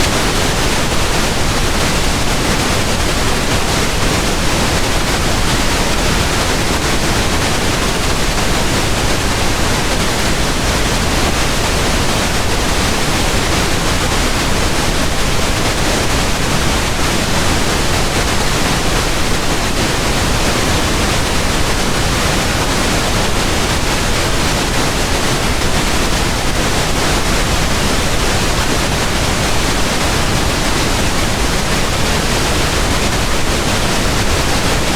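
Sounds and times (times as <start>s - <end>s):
pink noise hiss: 0.0s - 34.9s.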